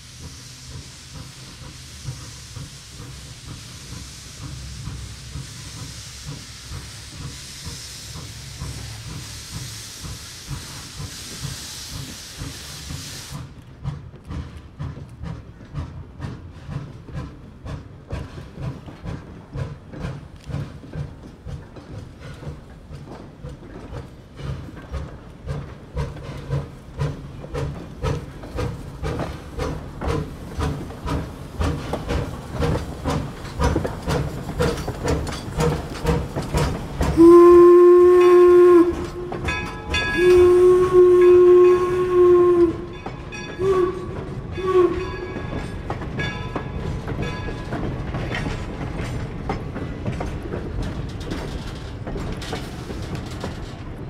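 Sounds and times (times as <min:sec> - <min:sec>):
steam hissing from cylinder cocks: 0:00.0 - 0:53.8
steam locomotive exhaust chuffs: 0:00.0 - 0:54.0.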